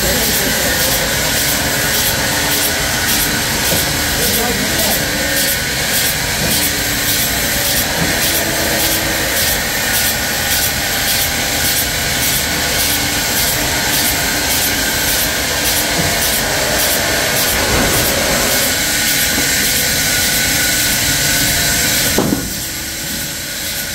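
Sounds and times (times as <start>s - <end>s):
large saw cutting logs: 0.0s - 23.5s.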